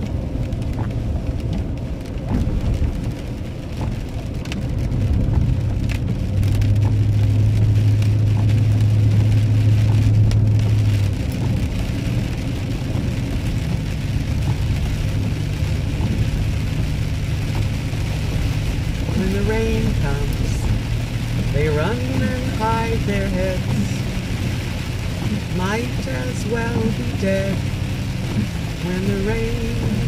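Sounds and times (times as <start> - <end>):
rain patter on vehicle: 0.0 - 30.0
vehicle driving on wet road: 0.0 - 30.0.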